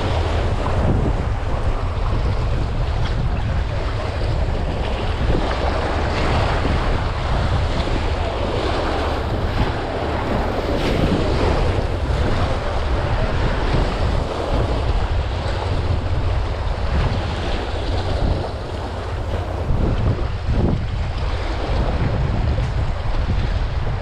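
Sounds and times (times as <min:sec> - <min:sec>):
surf washing against jetty: 0:00.0 - 0:24.0
wind buffeting microphone: 0:00.0 - 0:24.0.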